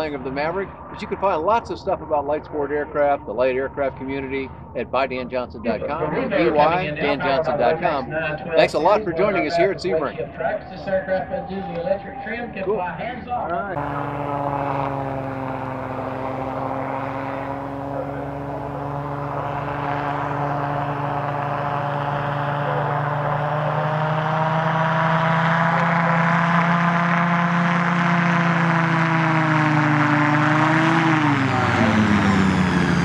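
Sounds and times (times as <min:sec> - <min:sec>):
aircraft engine and propeller: 0:00.0 - 0:12.7, 0:13.7 - 0:33.0.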